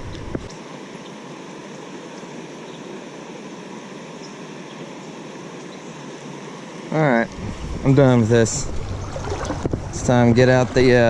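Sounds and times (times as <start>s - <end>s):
creek water rushing: 0.1s - 11.0s.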